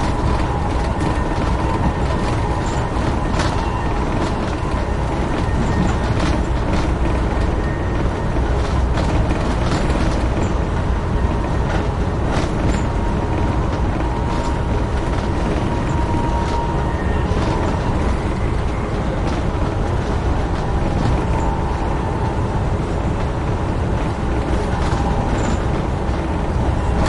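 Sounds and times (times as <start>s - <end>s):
train rumble: 0.0s - 27.0s
wheels clicking over track: 0.0s - 27.0s.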